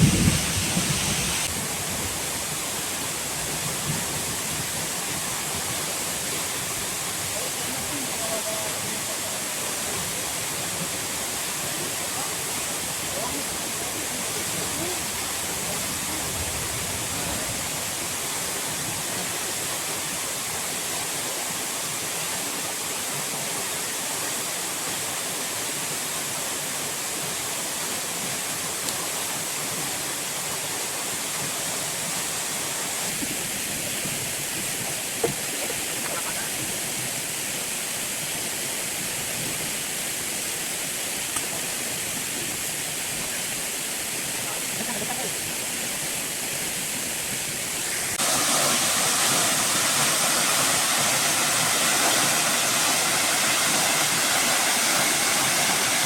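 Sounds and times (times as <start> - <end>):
rush of falling water: 0.0 - 56.0.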